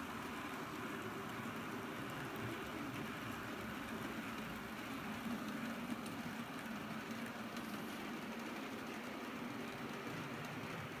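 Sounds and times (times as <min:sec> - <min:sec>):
model train wheels rattling on rails: 0:00.0 - 0:11.0.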